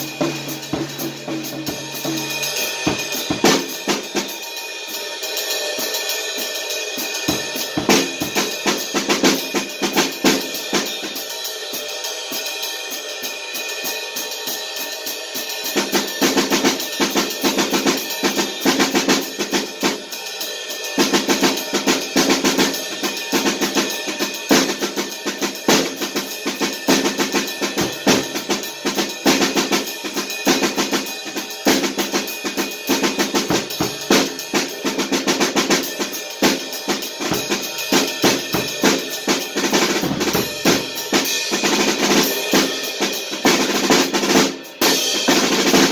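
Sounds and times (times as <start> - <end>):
acoustic drum kit playing: 0.0 - 45.9.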